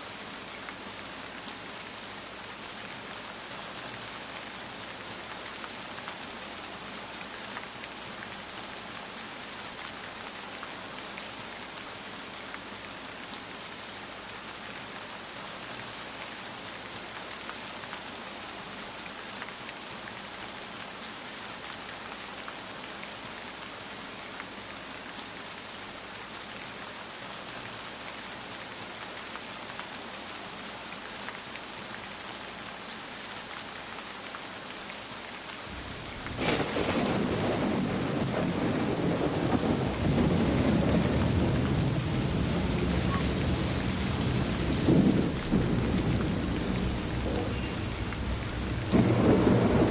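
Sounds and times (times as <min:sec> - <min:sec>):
rain patter on a surface: 0:00.0 - 0:49.9
steady rain falling: 0:00.0 - 0:49.9.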